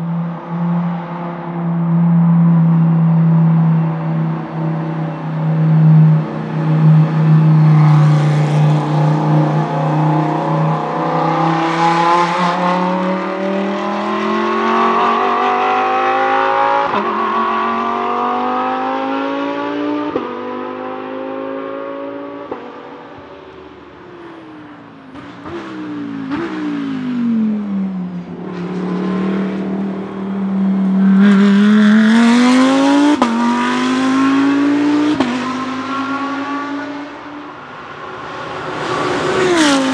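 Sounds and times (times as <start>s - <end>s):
race car engine accelerating: 0.0s - 23.2s, 25.1s - 39.9s.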